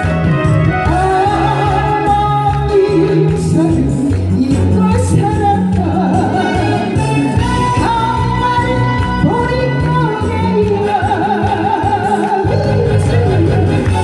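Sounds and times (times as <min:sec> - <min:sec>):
backing track with bass and beat: 0:00.0 - 0:14.0
woman singing: 0:00.7 - 0:14.0.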